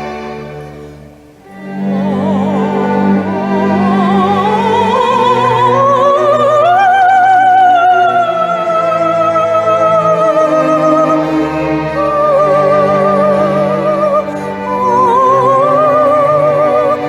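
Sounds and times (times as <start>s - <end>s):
low orchestral notes: 0.0s - 17.0s
woman singing operatic vocalise: 1.4s - 17.0s.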